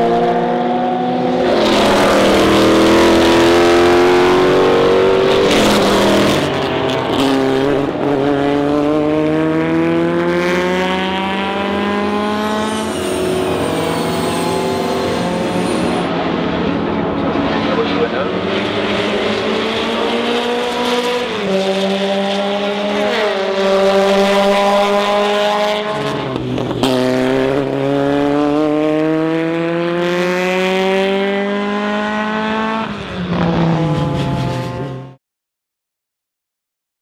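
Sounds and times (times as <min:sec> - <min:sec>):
race car engine revving through gears: 0:00.0 - 0:35.2.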